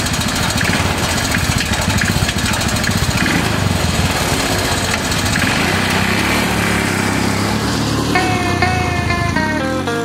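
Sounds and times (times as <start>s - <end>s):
small gasoline engine running: 0.0s - 10.0s.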